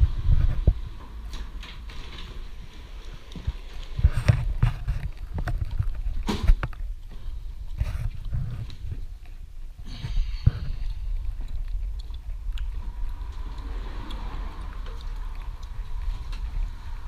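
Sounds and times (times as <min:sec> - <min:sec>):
low steady rumble: 0:02.4 - 0:17.0.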